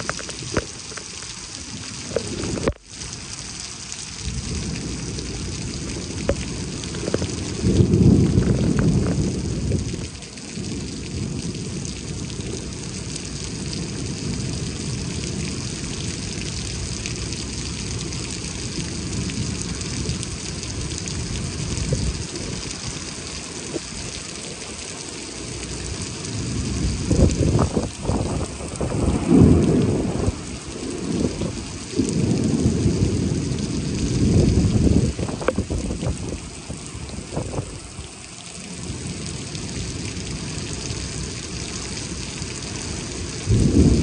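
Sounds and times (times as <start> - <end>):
heavy rain pouring: 0.0 - 44.0
thunder rumbling: 4.1 - 44.0.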